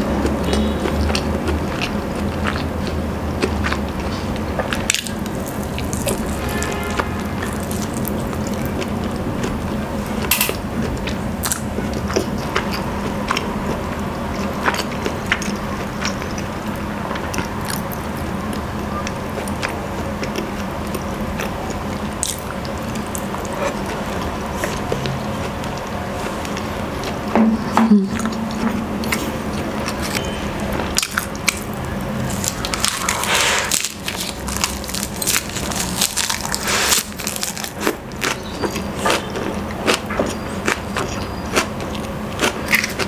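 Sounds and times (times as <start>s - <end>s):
crunching lettuce leaves: 0.0s - 27.2s, 28.9s - 43.0s
wet squishy chewing: 0.0s - 27.3s, 28.1s - 43.0s.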